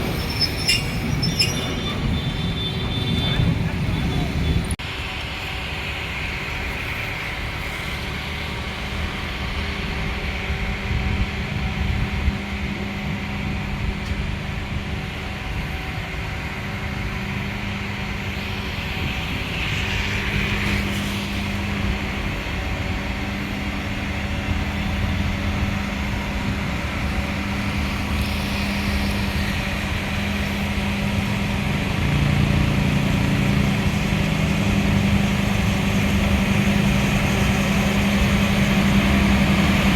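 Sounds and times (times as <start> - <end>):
train coach rumble and hum: 0.0 - 39.9.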